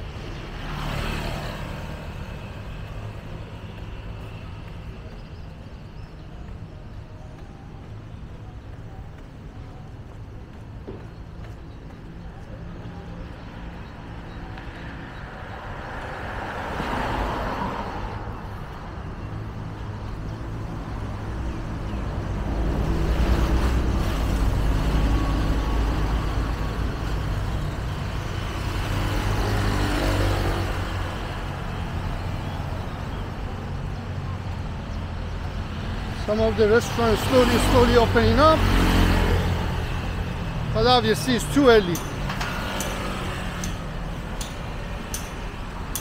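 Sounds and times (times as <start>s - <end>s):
vehicles driving past: 0.0s - 46.0s.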